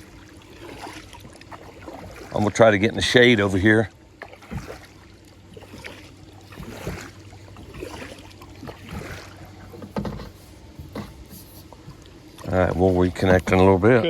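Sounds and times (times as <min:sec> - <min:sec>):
paddle splashing in water: 0:00.0 - 0:14.0.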